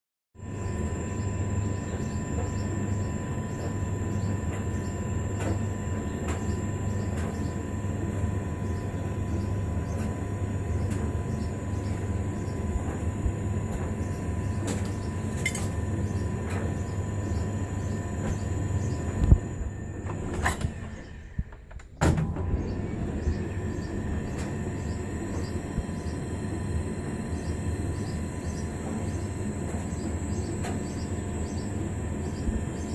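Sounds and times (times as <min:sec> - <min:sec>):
tumble dryer running: 0:00.4 - 0:32.9.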